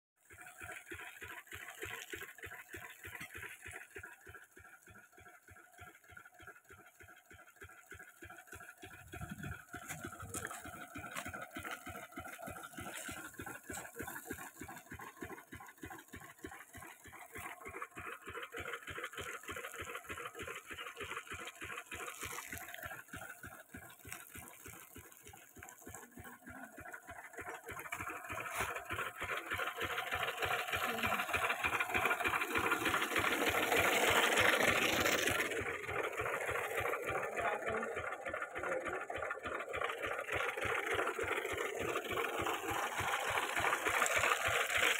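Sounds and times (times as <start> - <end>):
diesel engine running: 0.3 - 44.9.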